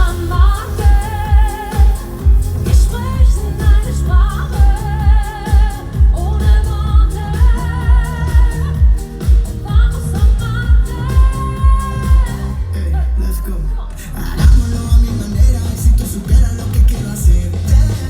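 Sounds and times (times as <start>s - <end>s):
kick drum beat: 0.0s - 12.5s, 14.4s - 18.0s
person singing pop melody: 0.0s - 18.0s.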